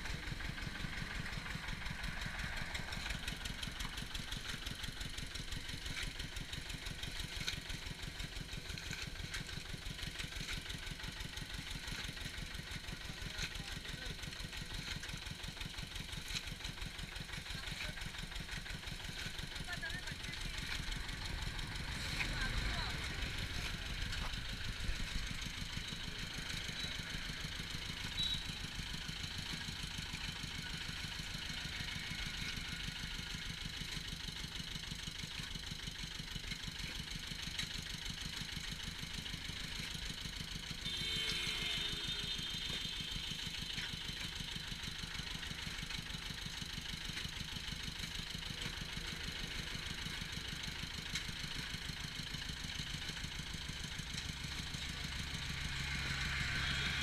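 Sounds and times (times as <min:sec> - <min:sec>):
crusher engine running: 0:00.0 - 0:57.0.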